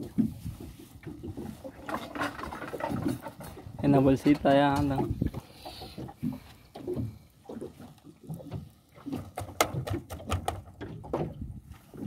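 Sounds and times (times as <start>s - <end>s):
water slapping against boat hull: 0.0s - 12.0s.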